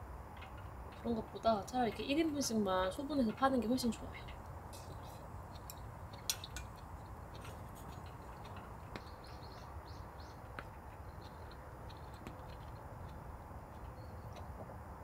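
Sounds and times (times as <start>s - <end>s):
low steady background: 0.0s - 15.0s.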